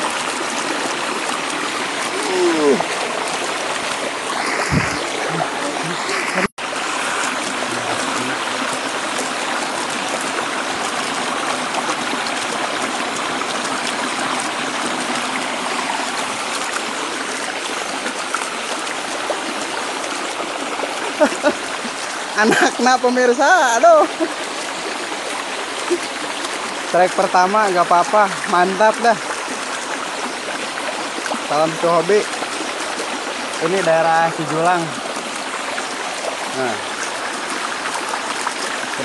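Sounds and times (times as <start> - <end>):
stream water rushing and splashing: 0.0 - 39.0.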